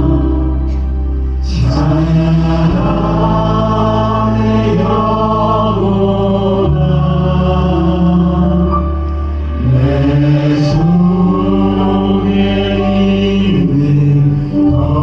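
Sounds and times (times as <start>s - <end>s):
held low instrumental chords: 0.0s - 15.0s
praise team singing: 0.0s - 15.0s.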